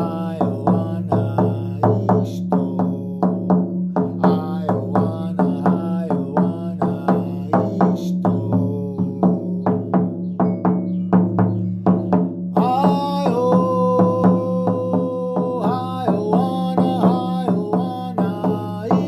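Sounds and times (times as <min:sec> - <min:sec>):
drum beating steadily: 0:00.0 - 0:19.0.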